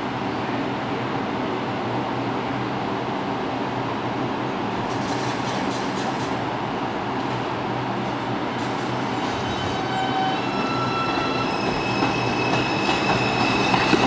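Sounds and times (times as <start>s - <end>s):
subway train hum and rumble: 0.0s - 14.0s.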